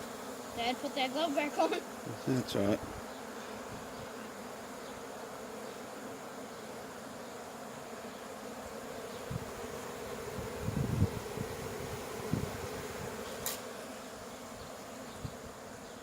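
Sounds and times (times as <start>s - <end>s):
bee swarm buzzing: 0.0s - 16.0s.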